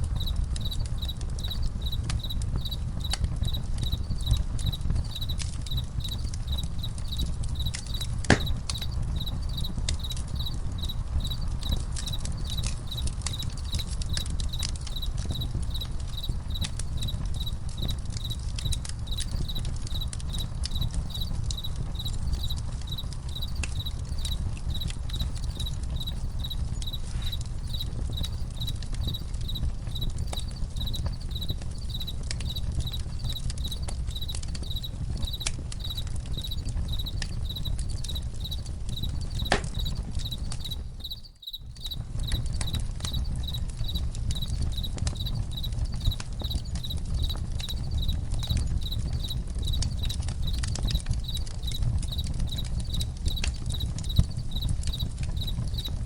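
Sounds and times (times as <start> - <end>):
campfire crackling and popping: 0.0 - 56.0
crickets chirping: 0.1 - 56.0.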